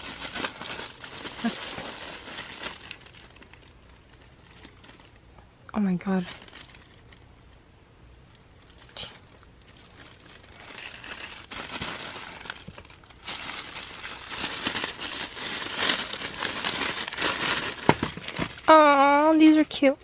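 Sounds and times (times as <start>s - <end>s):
packaging crinkling: 0.0s - 5.3s, 6.2s - 7.3s, 8.6s - 19.2s.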